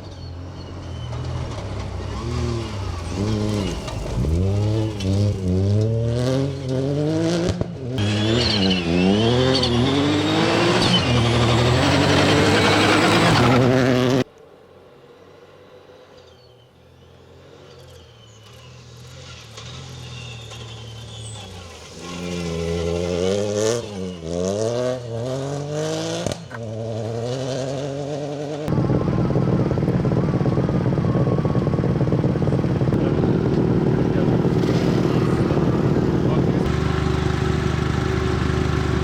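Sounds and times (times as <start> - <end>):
rally car engine under hard driving: 0.0 - 14.3, 17.6 - 39.0.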